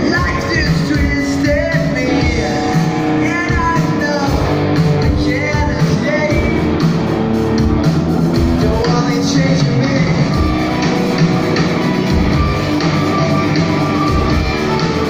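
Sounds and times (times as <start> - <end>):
lead singer: 0.0 - 15.0
live rock band playing: 0.0 - 15.0.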